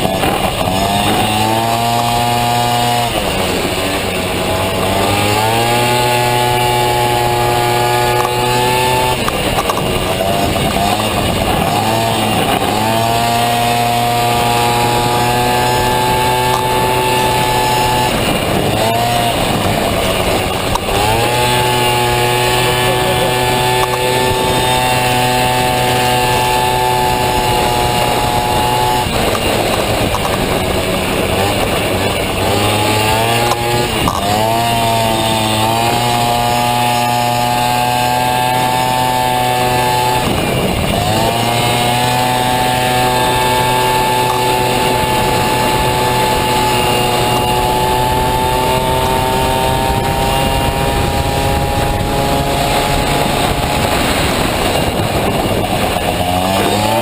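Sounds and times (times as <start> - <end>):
scooter engine at high revs: 0.0 - 57.0.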